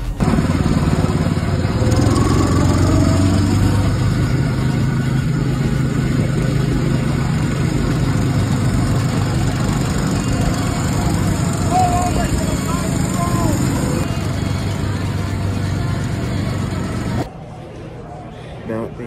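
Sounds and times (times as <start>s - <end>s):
go-kart engines droning: 0.0s - 17.3s
rising engine whines: 0.0s - 17.3s.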